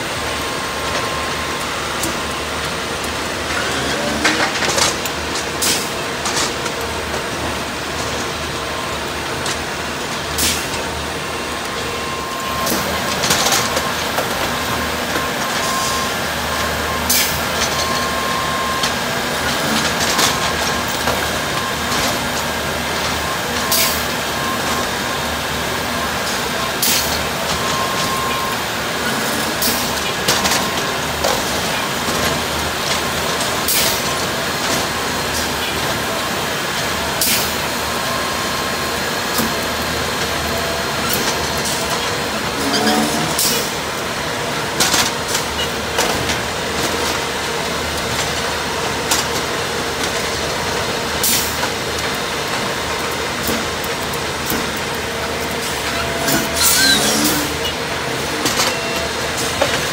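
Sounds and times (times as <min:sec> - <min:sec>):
track maintenance machine running: 0:00.0 - 0:59.9.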